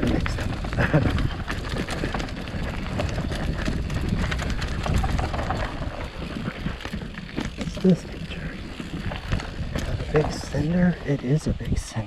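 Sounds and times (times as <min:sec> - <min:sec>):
bike rattling over bumps: 0:00.0 - 0:12.0
bike tyres rolling over dirt: 0:00.0 - 0:12.0.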